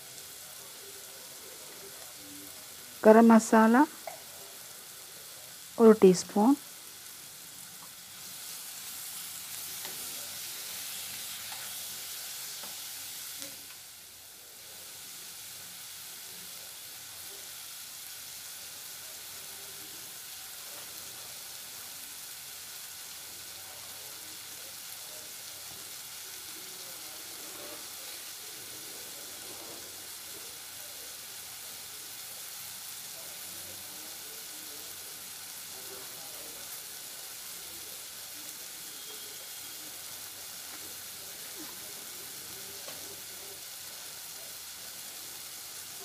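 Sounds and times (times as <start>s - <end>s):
food sizzling in a pot: 0.0s - 46.0s.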